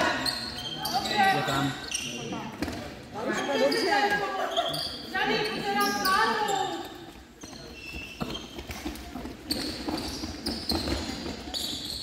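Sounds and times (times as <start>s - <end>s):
shoes squeaking on floor: 0.0s - 12.0s.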